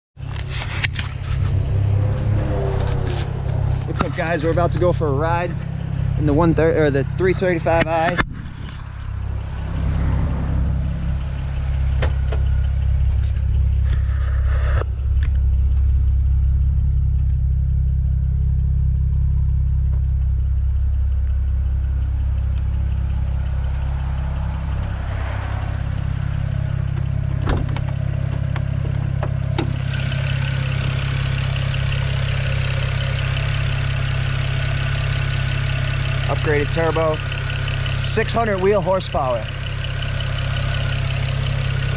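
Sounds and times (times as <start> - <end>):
car engine idling: 0.2 - 41.9.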